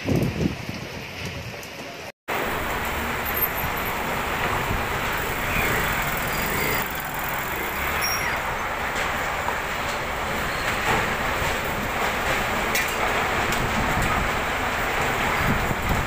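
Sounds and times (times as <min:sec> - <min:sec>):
heavy rain: 0:00.0 - 0:16.0
strong wind: 0:00.0 - 0:16.0.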